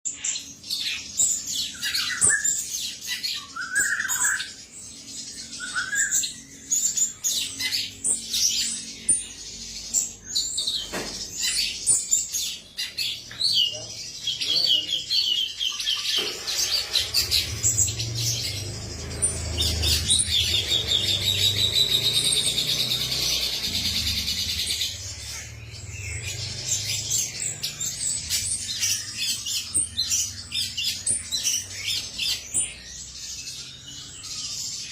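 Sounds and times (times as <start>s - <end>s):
bulbul singing: 0.1s - 34.9s.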